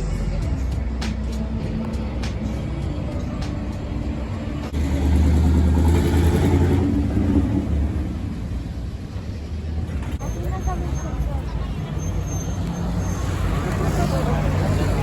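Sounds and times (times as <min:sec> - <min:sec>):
city street traffic: 0:00.0 - 0:15.0
vehicle engine rumbling: 0:00.0 - 0:15.0.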